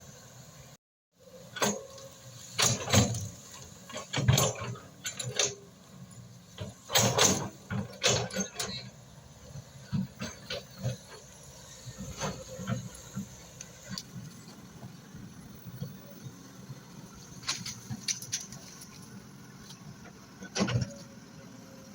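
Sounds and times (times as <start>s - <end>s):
excavator engine hum: 0.0s - 21.9s.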